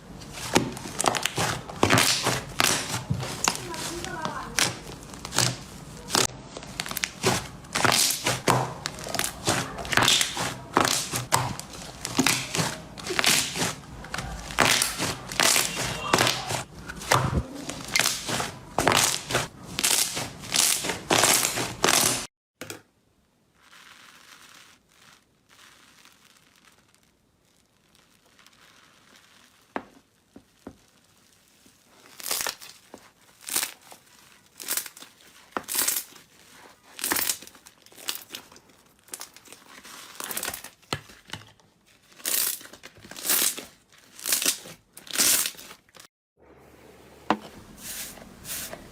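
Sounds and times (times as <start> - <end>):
slime crackling and popping: 0.1 - 22.3, 23.6 - 41.3, 42.0 - 46.0.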